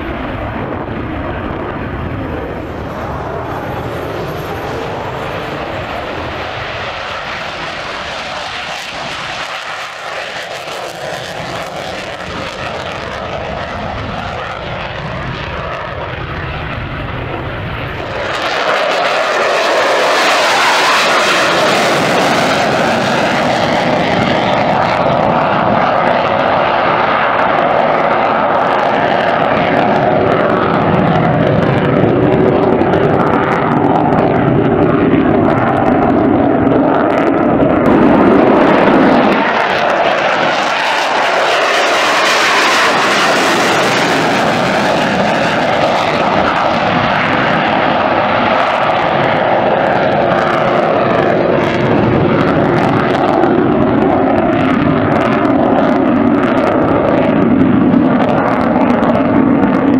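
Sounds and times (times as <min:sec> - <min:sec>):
fighter jet roar: 0:00.0 - 0:59.9.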